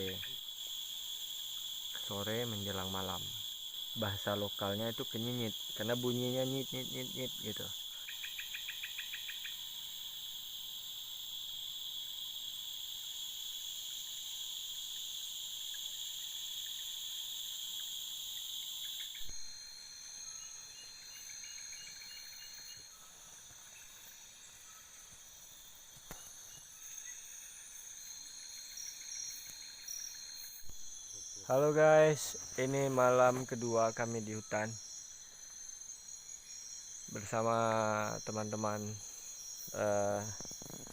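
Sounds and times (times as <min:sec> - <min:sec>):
high-pitched insect drone: 0:00.0 - 0:40.9
insects chirping: 0:00.0 - 0:40.9.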